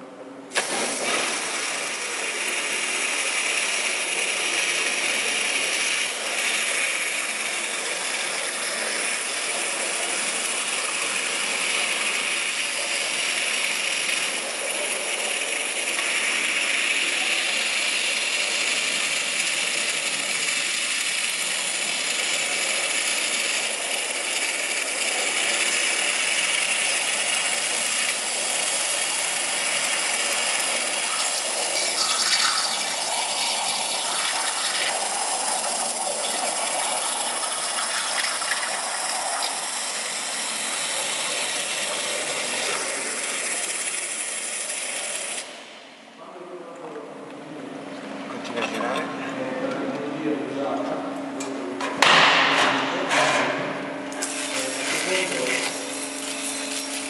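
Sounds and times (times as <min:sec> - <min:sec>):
waterjet cutter hissing: 0:00.0 - 0:46.0, 0:52.0 - 0:57.0.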